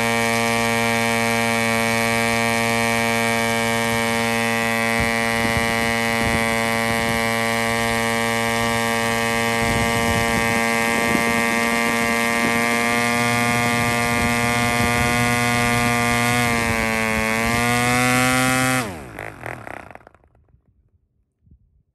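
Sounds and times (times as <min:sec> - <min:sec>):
model engine running: 0:00.0 - 0:20.6
propeller winding down: 0:00.0 - 0:20.9.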